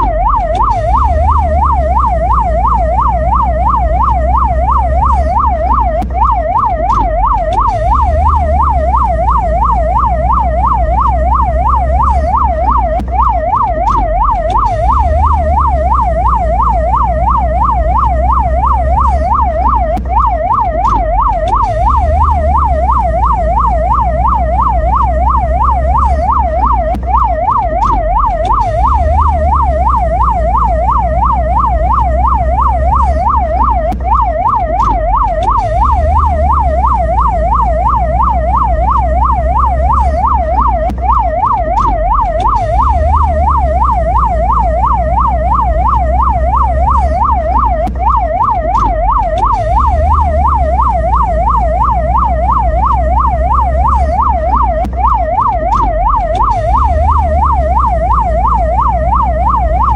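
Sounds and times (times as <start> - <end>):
ambulance siren yelping: 0.0 - 59.9.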